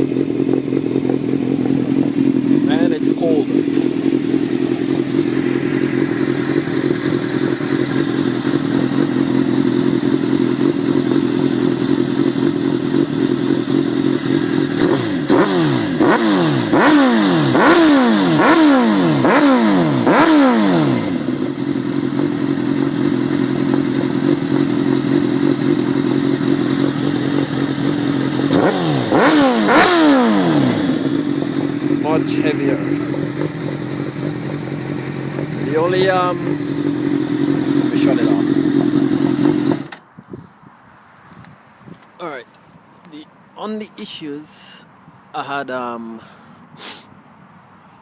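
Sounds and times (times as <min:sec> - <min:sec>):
motorcycle engine idling: 0:00.0 - 0:40.2
motorcycle engine revving: 0:00.0 - 0:40.2.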